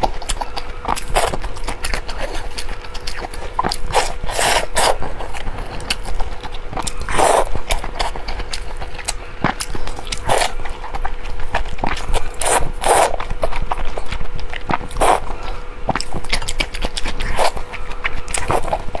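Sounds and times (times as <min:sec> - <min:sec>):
wet chewing: 0:00.0 - 0:19.0
slurping: 0:00.4 - 0:19.0.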